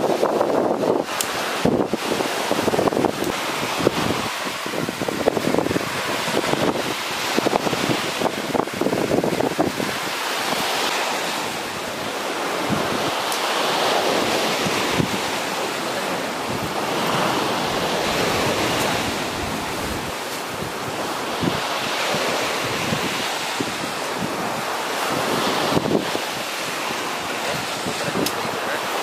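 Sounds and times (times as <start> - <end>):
sea surf washing onto beach: 0.0 - 29.0.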